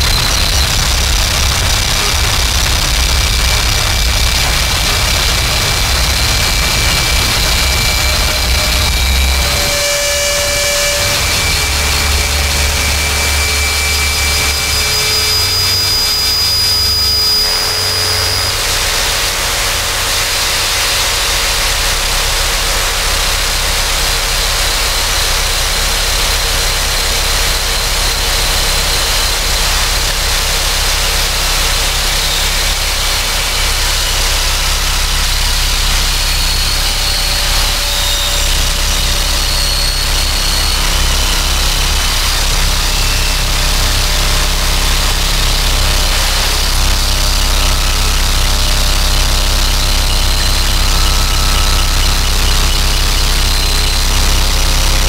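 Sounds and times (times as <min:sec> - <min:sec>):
harsh electronic noise music: 0:00.0 - 0:55.0.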